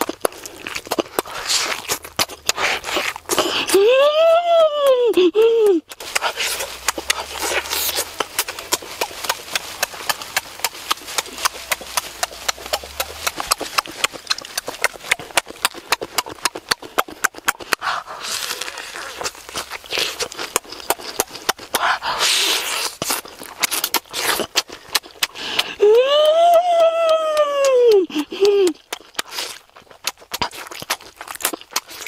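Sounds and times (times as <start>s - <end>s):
breathy sounds: 0.0s - 23.0s, 24.3s - 28.9s
person chewing with wet lip smacks: 0.0s - 32.0s.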